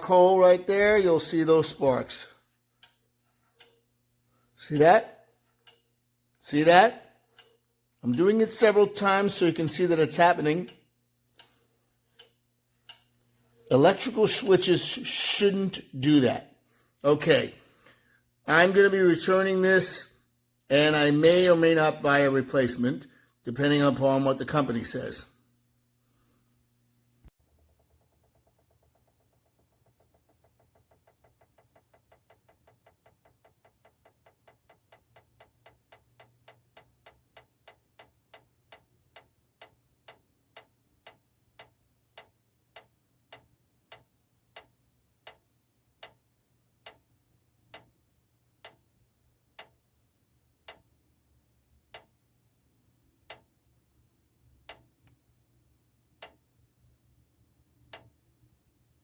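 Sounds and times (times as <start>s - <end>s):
faint mechanical ticking: 0.4s - 15.0s, 25.4s - 59.0s.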